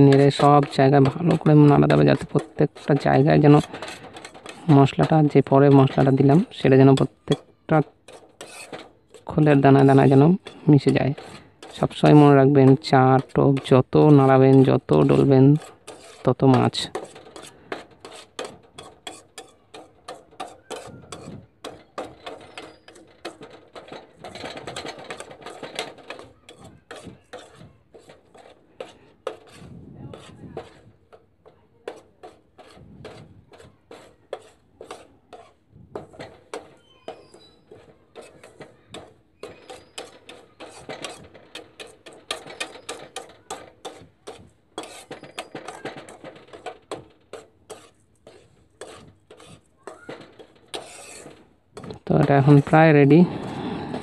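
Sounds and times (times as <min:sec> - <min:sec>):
metal spoon scraping a pan: 0:00.0 - 0:54.0.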